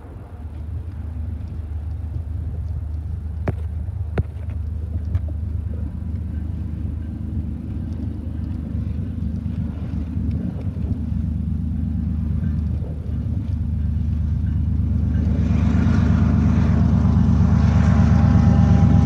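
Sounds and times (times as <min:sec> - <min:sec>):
diesel locomotives rumbling: 0:00.0 - 0:19.0.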